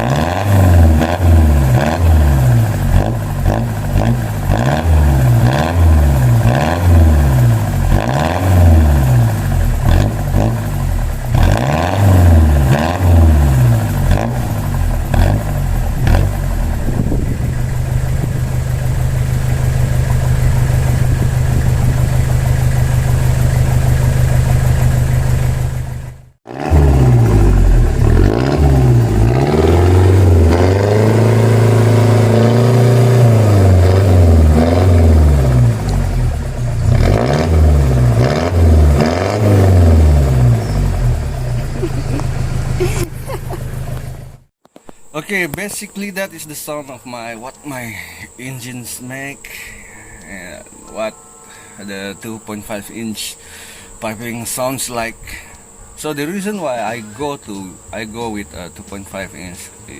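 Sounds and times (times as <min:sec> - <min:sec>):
diesel engine revving: 0:00.0 - 0:44.5, 0:45.2 - 0:59.9.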